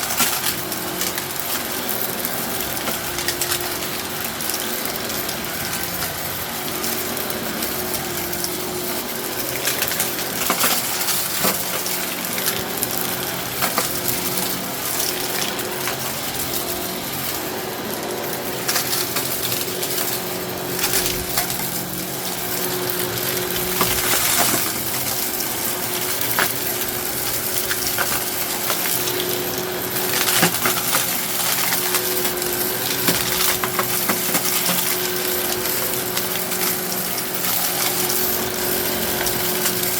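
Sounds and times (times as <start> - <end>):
gravel rattling through vacuum: 0.0 - 39.9
upright vacuum motor running: 0.0 - 39.9.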